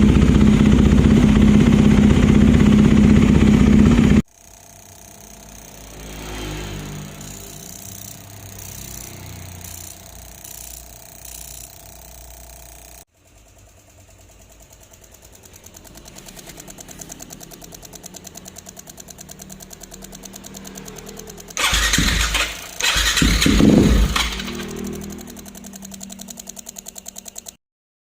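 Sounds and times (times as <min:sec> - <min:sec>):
low mechanical hum: 0:00.0 - 0:27.6
two-stroke engine knocking: 0:00.0 - 0:27.6.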